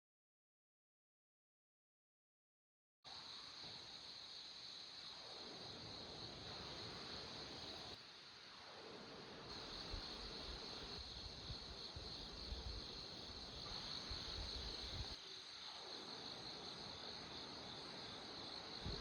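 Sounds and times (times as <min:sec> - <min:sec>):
insects chirring: 0:03.1 - 0:19.0.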